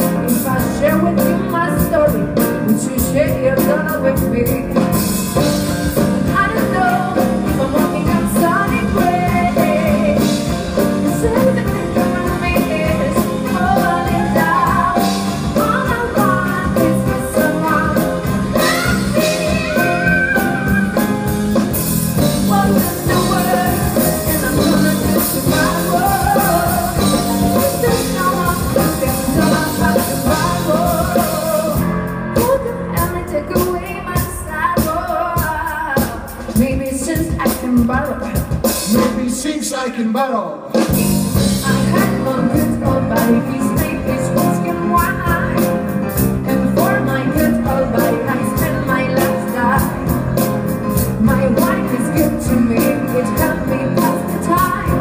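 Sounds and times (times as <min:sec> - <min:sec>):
live band music with singing: 0:00.0 - 0:55.0.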